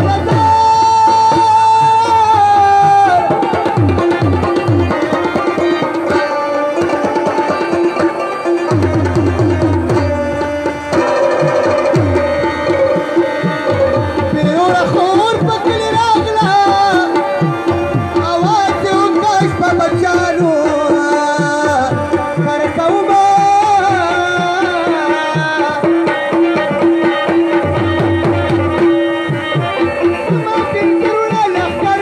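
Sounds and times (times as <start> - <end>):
hand drums beating fast: 0.0 - 32.0.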